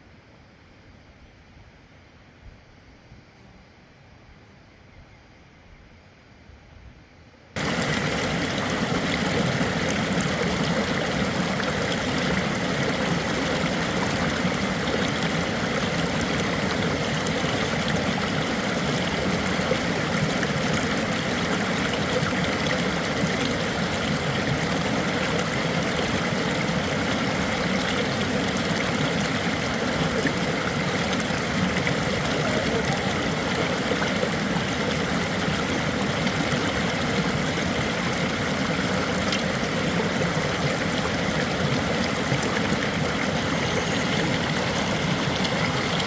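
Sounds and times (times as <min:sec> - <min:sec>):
rushing stream water: 0:07.6 - 0:46.0.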